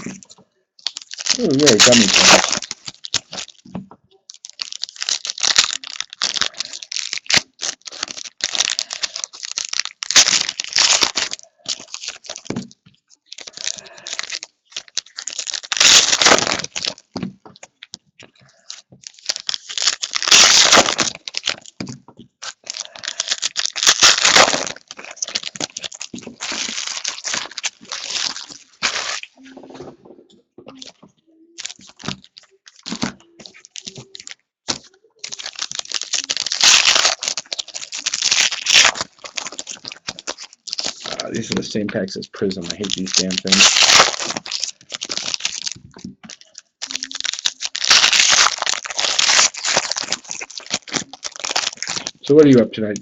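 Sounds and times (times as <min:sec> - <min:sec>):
wrappers torn and crumpled: 0:00.0 - 0:29.9, 0:30.7 - 0:53.0.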